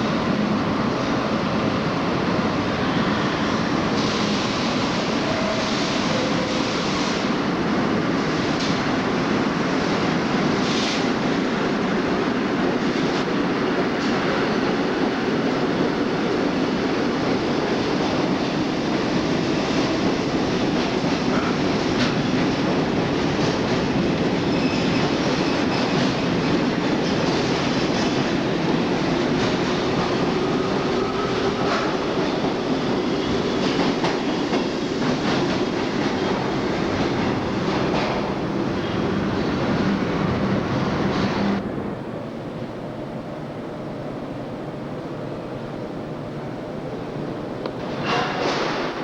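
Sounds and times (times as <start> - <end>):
train rumbling along rails: 0.0 - 49.0.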